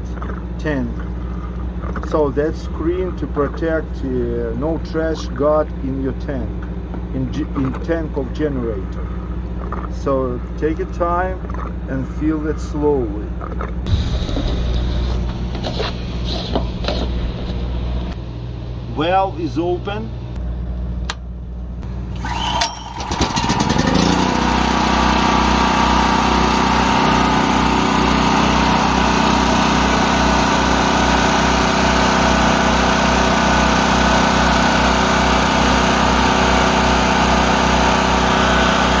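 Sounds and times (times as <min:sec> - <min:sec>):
generator engine starting and running: 0:00.0 - 0:39.0.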